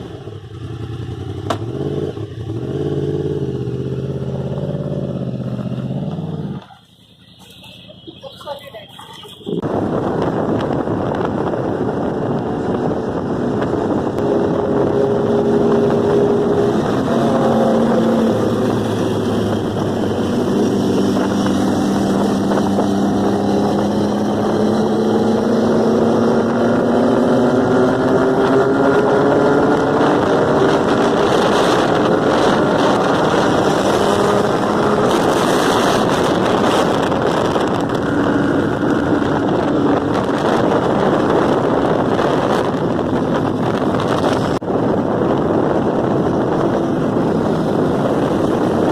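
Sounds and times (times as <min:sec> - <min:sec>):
motorcycle engine running: 0:00.0 - 0:48.9
wind rush on microphone: 0:08.4 - 0:48.9.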